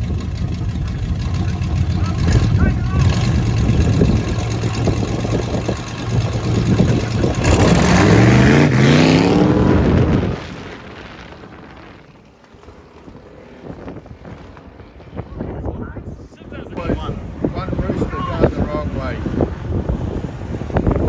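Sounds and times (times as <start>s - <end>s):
drag racing engine at full throttle: 0.0s - 21.0s
wind noise: 0.0s - 21.0s.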